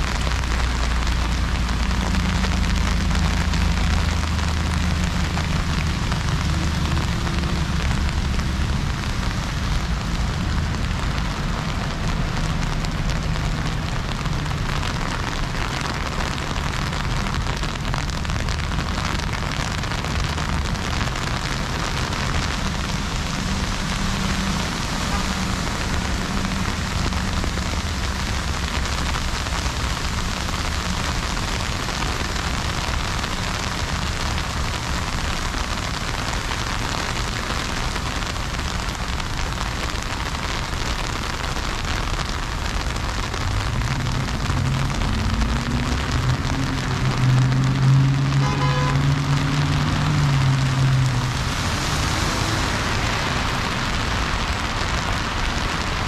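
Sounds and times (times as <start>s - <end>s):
heavy freezing rain hissing: 0.0s - 56.0s.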